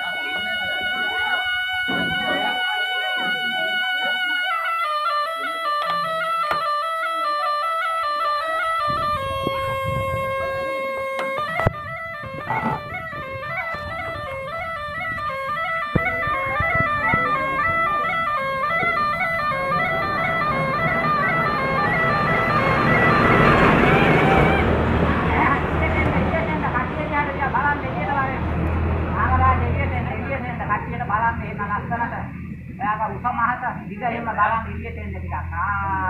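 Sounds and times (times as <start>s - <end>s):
reedy pipe melody over drone: 0.0s - 30.5s.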